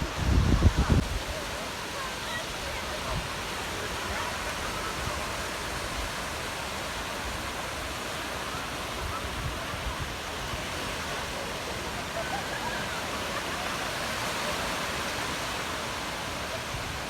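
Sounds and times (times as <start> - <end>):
sea surf breaking on a beach: 0.0 - 17.0.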